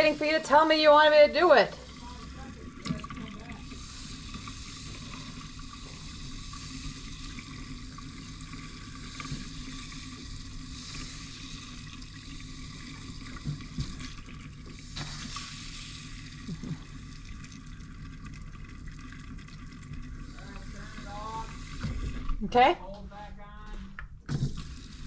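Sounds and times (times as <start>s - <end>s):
water running from a tap: 0.0s - 22.7s, 24.3s - 25.0s.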